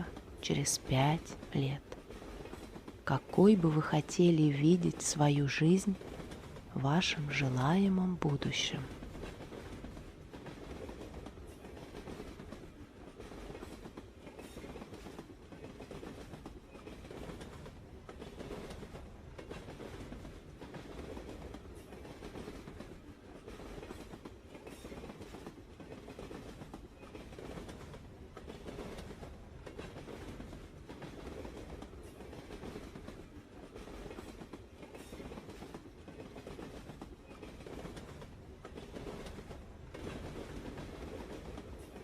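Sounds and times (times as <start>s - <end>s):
train wheels rumbling: 0.0s - 42.0s.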